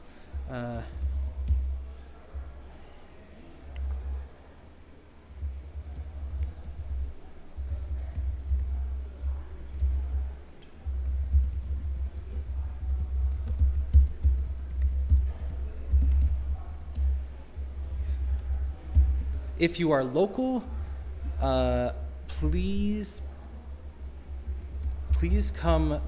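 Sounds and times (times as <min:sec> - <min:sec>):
typing on computer keyboard: 0:00.3 - 0:01.8, 0:05.4 - 0:19.6, 0:20.7 - 0:26.0.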